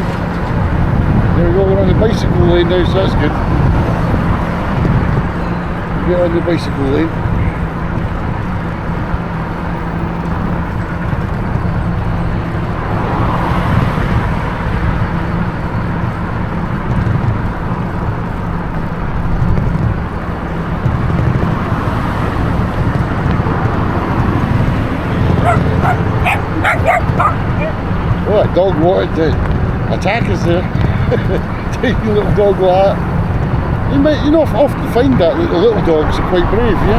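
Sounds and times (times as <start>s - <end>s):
motor traffic passing: 0.0s - 36.9s
road and wind noise: 0.0s - 36.9s.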